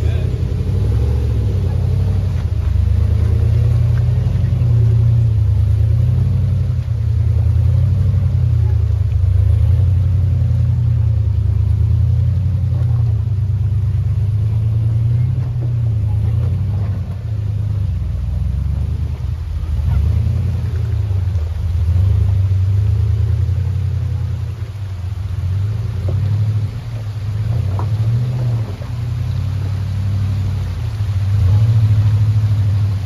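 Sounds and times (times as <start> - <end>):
engine rumbling at low revs: 0.0 - 33.0.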